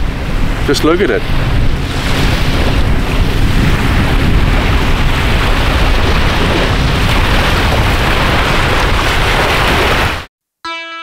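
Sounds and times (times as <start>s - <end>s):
wind blowing across microphone: 0.0s - 10.3s.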